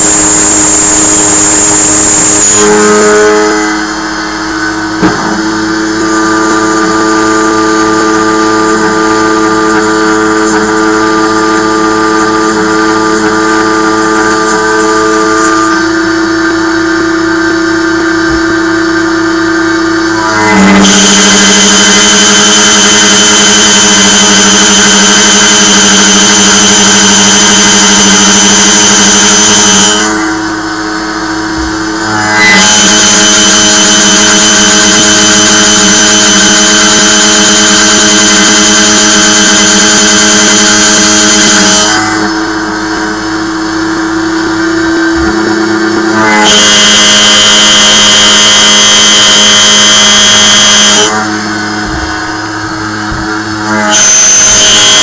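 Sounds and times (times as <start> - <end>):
mill cutting steel screech: 0.0 - 55.0.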